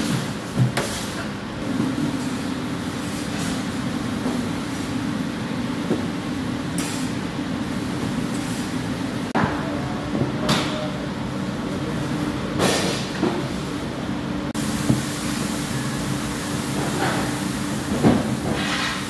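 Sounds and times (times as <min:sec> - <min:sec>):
kitchen machinery drone: 0:00.0 - 0:19.0.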